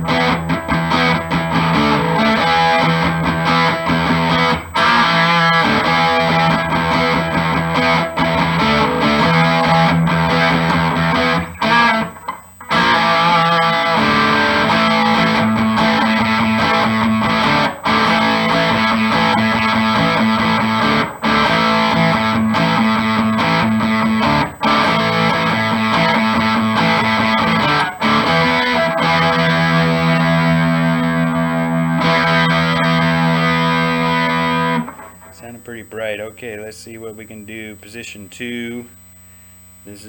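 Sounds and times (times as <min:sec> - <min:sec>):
distorted electric guitar: 0:00.0 - 0:37.8.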